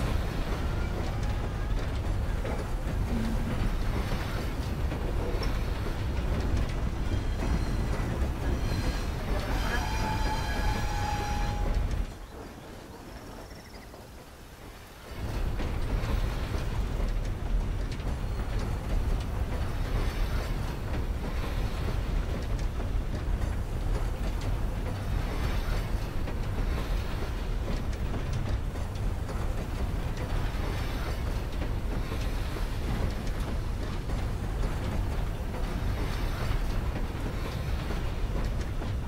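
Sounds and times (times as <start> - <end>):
train rumble from inside carriage: 0.0 - 39.0.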